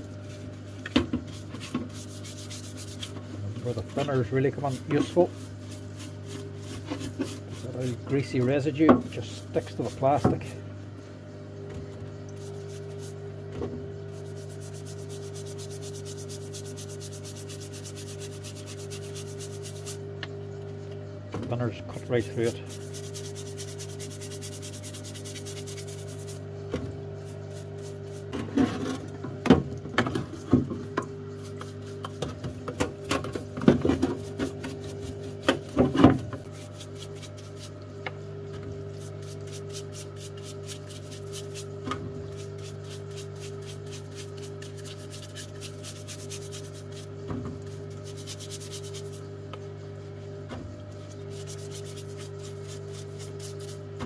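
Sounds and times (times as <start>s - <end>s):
stiff brush scrubbing plastic: 0.0s - 10.5s, 12.4s - 13.3s, 14.1s - 20.0s, 22.0s - 26.5s, 27.2s - 29.0s, 30.1s - 38.0s, 38.8s - 49.3s, 50.9s - 54.0s
steady low hum: 0.0s - 54.0s.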